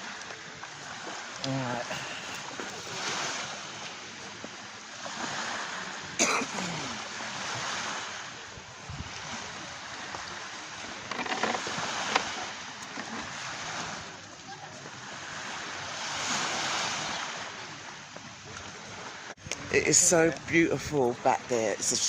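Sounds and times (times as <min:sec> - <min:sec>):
sea waves washing in: 0:00.0 - 0:22.0.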